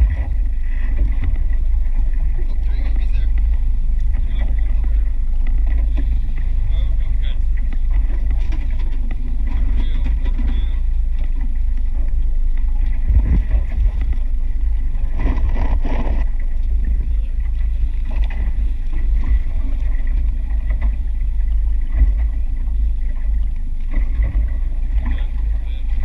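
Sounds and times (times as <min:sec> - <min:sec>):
boat engine running: 0:00.0 - 0:26.0
wind on microphone: 0:00.0 - 0:26.0.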